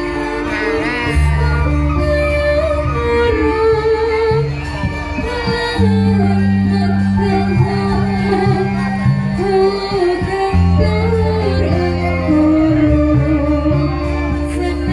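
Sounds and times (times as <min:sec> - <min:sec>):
live ensemble music: 0:00.0 - 0:14.9
woman singing through loudspeakers: 0:00.0 - 0:14.9.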